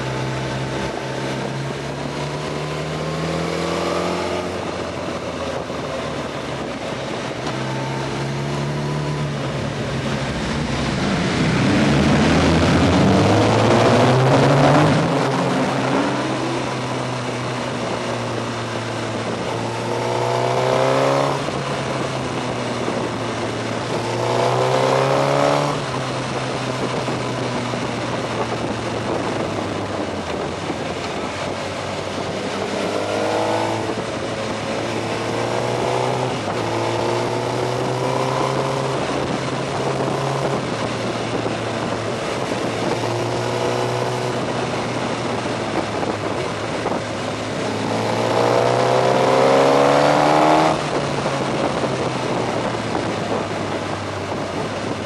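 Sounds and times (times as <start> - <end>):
motorcycle engine accelerating: 0.0 - 55.0
wind rushing: 6.5 - 55.0.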